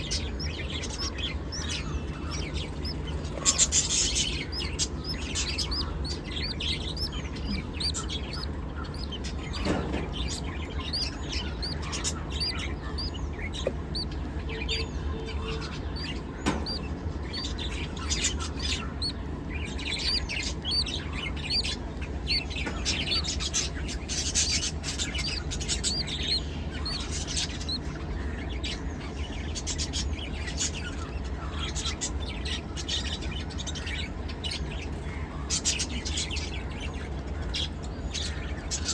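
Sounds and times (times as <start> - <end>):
parrots chirping: 0.0 - 38.9
steady low hum: 0.0 - 38.9.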